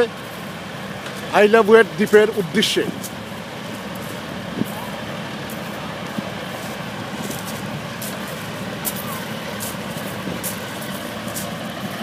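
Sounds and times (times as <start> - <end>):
hovercraft engine and fan drone: 0.0 - 12.0.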